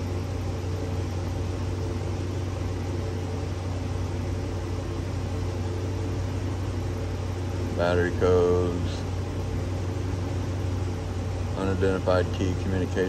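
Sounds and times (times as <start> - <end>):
constant hiss: 0.0 - 13.0
low mechanical hum: 0.0 - 13.0.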